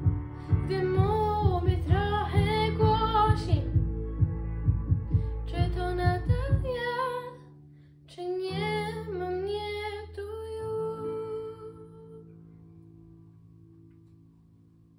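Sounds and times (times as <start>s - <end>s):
girl singing pop ballad: 0.0s - 12.3s.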